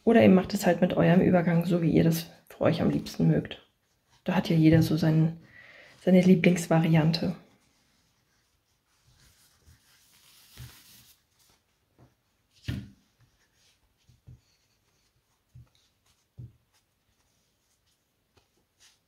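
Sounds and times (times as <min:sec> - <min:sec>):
cord rustling through stitches: 0:00.0 - 0:19.0.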